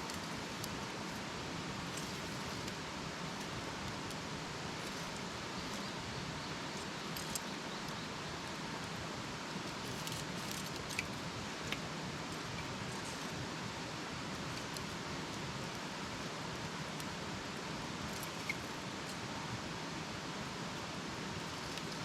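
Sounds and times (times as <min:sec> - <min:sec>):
campfire hissing and crackling: 0:00.0 - 0:22.0.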